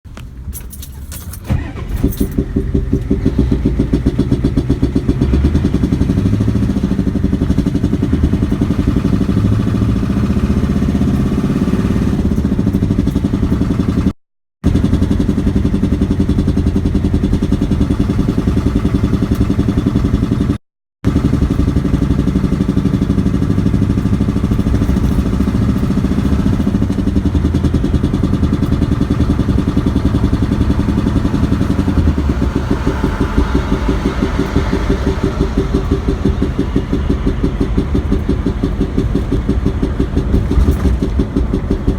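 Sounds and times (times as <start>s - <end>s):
diesel engine idling: 1.5s - 14.1s, 14.7s - 41.9s.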